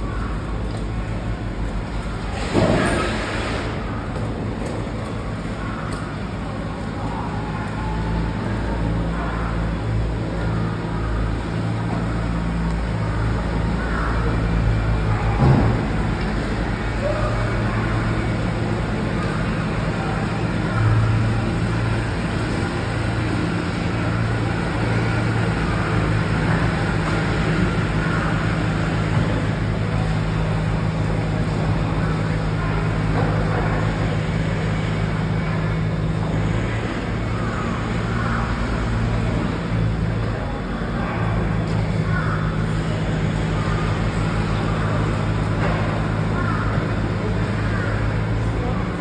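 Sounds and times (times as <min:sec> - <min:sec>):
engines humming: 0:00.0 - 0:49.0.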